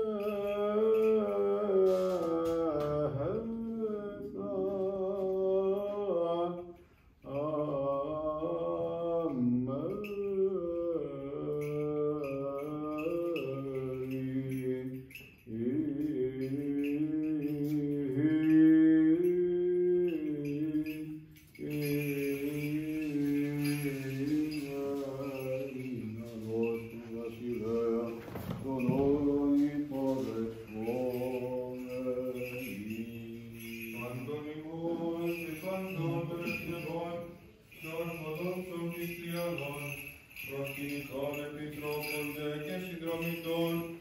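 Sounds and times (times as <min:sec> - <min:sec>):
man chanting: 0:00.0 - 0:44.0.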